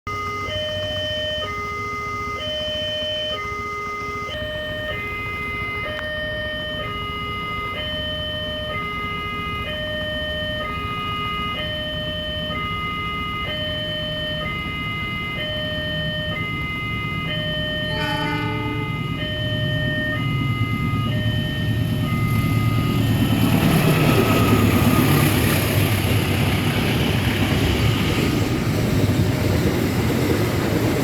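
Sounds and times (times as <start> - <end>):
level crossing two-tone alarm: 0.1 - 26.6
low train rumble: 2.3 - 31.0.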